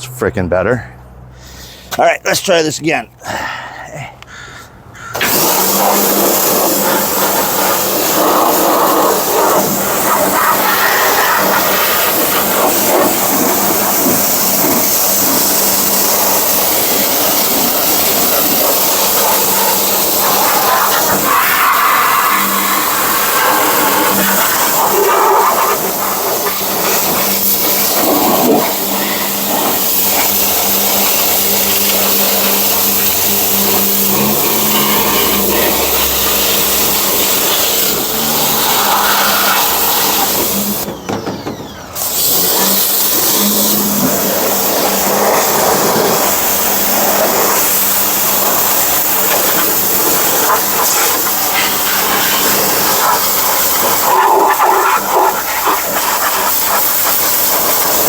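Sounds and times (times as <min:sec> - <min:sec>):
motor humming: 0:05.1 - 0:56.8
pressure washer spraying water: 0:05.2 - 0:58.0.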